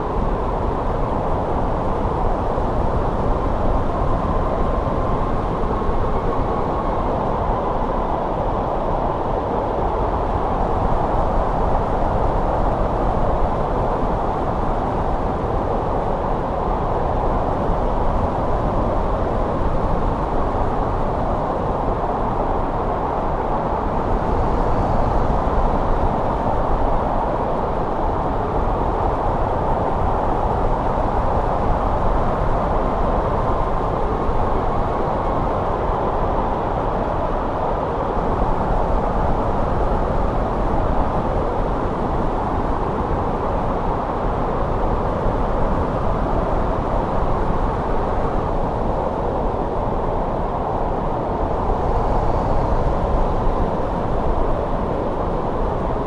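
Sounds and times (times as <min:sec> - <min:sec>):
snow wind blowing: 0:00.0 - 0:56.0.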